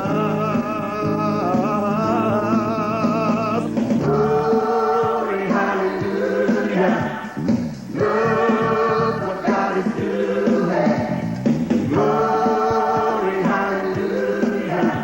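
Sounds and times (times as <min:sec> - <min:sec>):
backing music: 0:00.0 - 0:15.0
gospel singing: 0:00.0 - 0:15.0.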